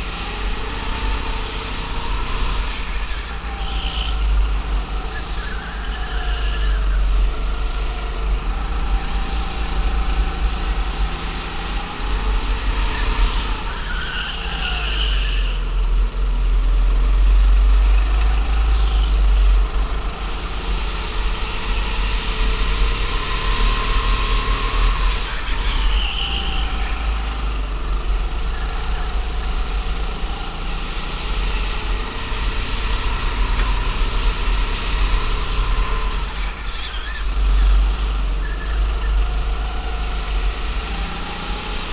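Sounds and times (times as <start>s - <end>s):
go-kart engine revving: 0.0s - 41.9s.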